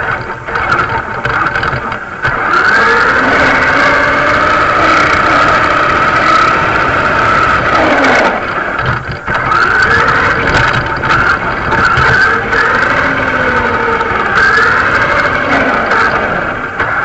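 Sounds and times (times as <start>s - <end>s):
model car motor whining: 0.0s - 17.0s.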